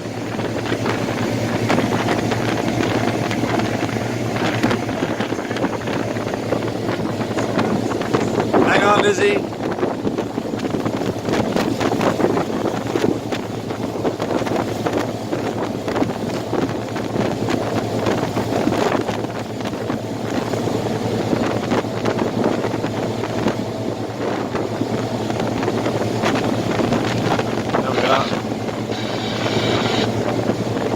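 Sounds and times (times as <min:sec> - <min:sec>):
outboard motor hum: 0:00.0 - 0:30.9
wind buffeting microphone: 0:00.0 - 0:30.9.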